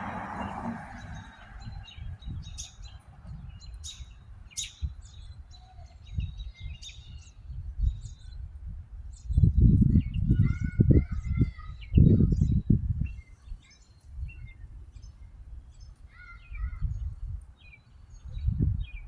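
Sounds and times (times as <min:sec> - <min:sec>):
songbirds chirping: 0:00.0 - 0:19.0
wind rumble on microphone: 0:00.0 - 0:19.0.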